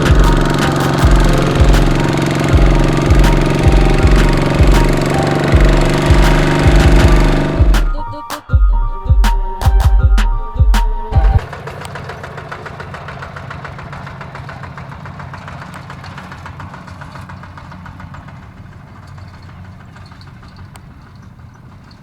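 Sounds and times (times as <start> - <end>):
diesel engine knocking chug: 0.0 - 8.0, 9.1 - 22.0.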